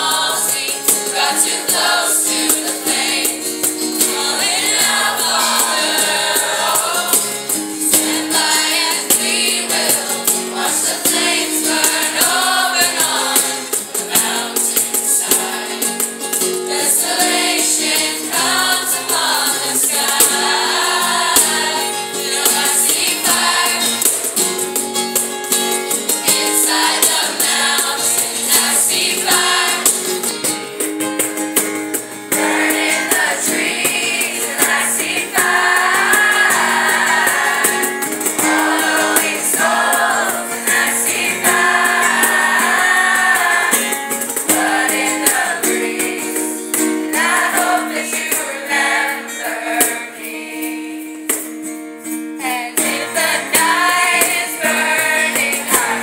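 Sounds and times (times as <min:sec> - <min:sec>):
school chorus singing: 0:00.0 - 0:24.6, 0:26.2 - 0:30.4, 0:32.3 - 0:51.0, 0:52.4 - 0:56.0.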